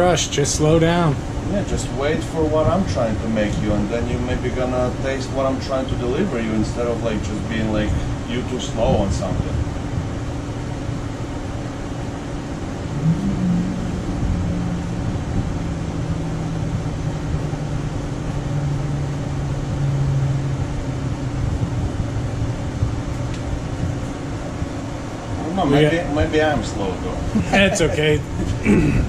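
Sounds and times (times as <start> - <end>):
fan hum and low rumble: 0.0 - 29.0
low engine-like drone: 0.0 - 29.0.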